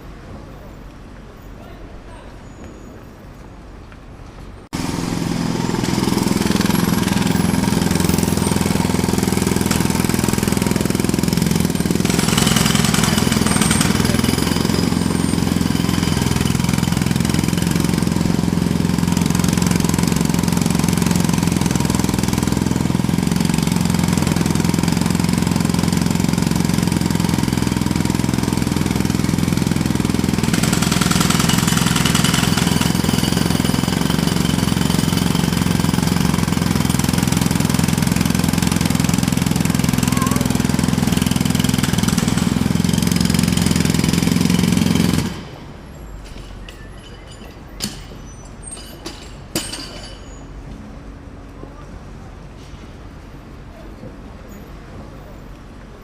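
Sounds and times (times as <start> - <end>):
jackhammer hammering: 4.7 - 50.4.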